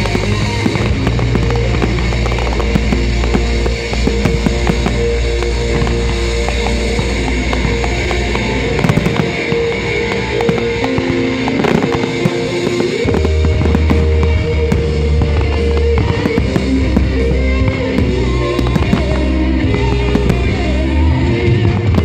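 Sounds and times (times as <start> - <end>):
fireworks bangs and crackles: 0.0 - 22.0
heavy bass line: 0.0 - 22.0
loud music: 0.0 - 22.0.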